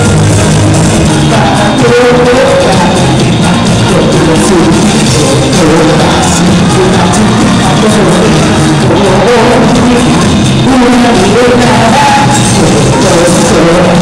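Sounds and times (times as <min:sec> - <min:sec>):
live music through pa system: 0:00.0 - 0:14.0
person singing: 0:00.0 - 0:14.0.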